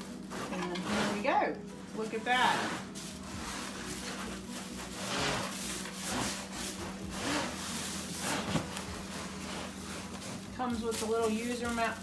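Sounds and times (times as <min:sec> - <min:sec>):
cardboard rubbing and scraping: 0:00.0 - 0:12.0.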